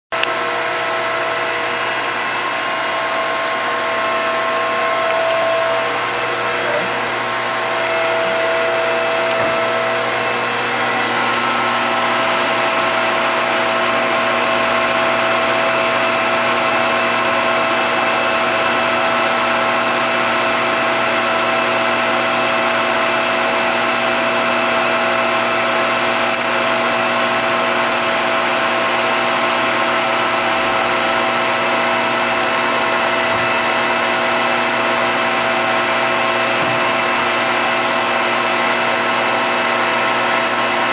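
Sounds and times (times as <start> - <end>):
drilling machine whine: 0.1 - 40.9.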